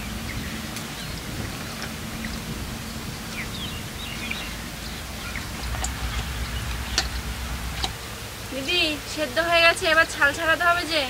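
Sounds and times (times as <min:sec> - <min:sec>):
outdoor background hiss: 0:00.0 - 0:11.0
small birds chirping: 0:00.0 - 0:11.0.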